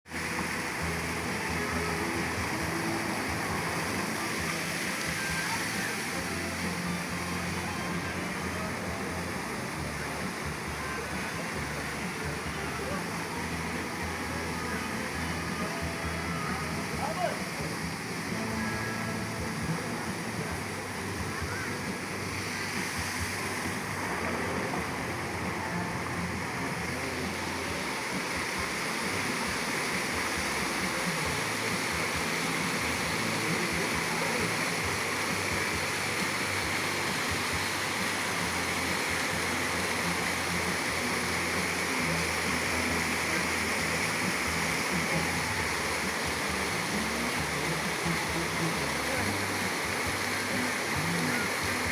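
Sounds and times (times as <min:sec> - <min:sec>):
fountain water splashing: 0:00.0 - 0:51.9.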